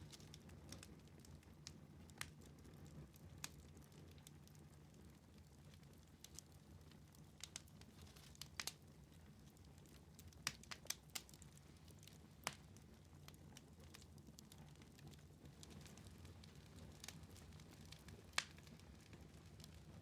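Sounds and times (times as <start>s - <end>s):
wood fire crackling in fireplace: 0.0s - 20.0s.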